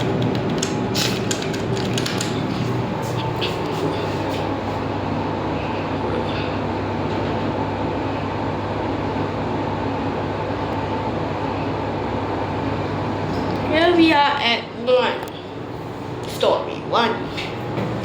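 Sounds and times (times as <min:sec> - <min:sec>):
lift running rumble: 0:00.0 - 0:18.0.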